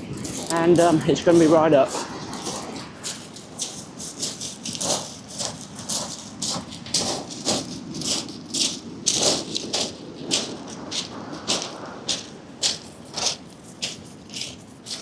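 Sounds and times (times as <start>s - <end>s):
footsteps crunching on beach: 0.0s - 15.0s
rough sea rumbling: 0.0s - 15.0s.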